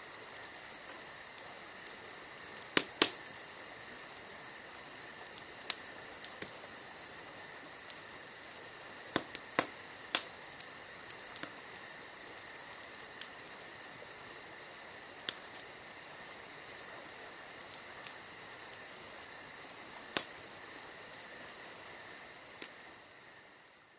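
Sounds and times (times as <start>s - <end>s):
campfire crackling and popping: 0.0s - 23.9s
crickets chirping: 0.0s - 23.9s.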